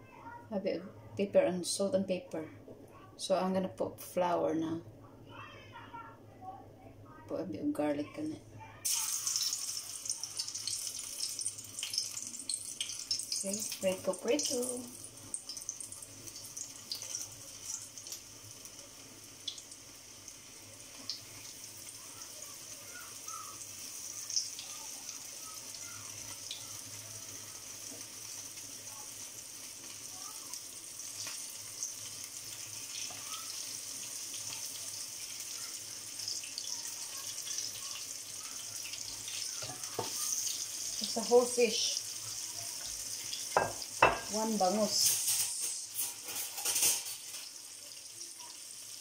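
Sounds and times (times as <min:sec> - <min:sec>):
fish frying in oil: 0:08.8 - 0:49.0.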